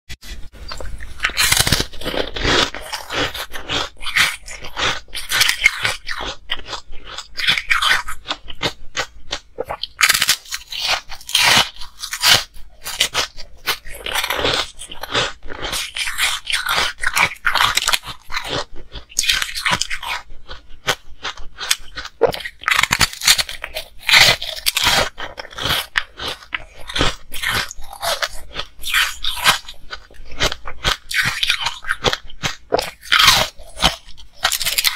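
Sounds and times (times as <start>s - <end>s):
person crunching ice: 0.7s - 34.9s.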